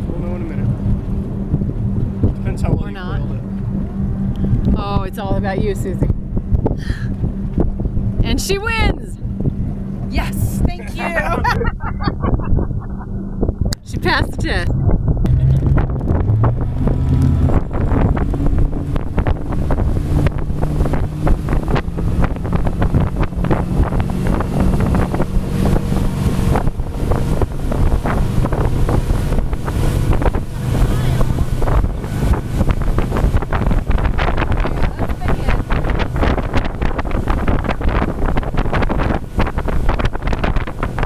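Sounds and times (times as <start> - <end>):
motorboat engine humming: 0.0 - 41.0
wind buffeting microphone: 0.0 - 41.0.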